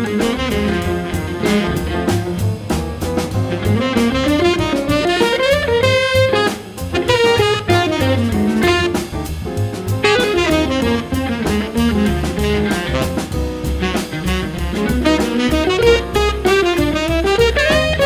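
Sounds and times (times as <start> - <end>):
bass: 0.0 - 18.0
drum kit: 0.0 - 18.0
saxophone soloing: 0.0 - 18.0.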